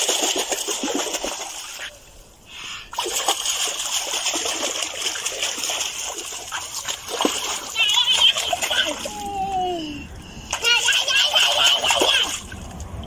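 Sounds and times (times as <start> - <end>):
children splashing water: 0.0 - 2.0, 2.9 - 13.0.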